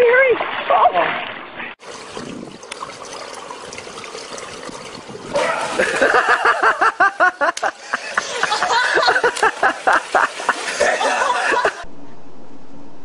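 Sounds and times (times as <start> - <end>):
pool water splashing: 0.0 - 11.8.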